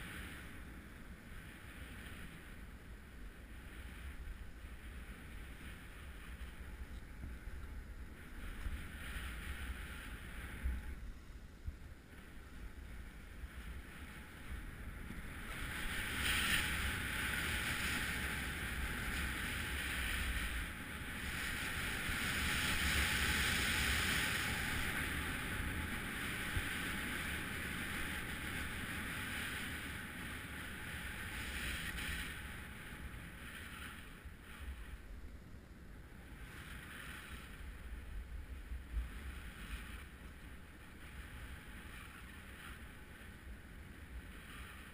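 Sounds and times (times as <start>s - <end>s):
skis scraping over snow: 0.0s - 11.1s, 11.7s - 35.1s, 36.2s - 44.9s
wind rumbling on microphone: 0.0s - 44.9s.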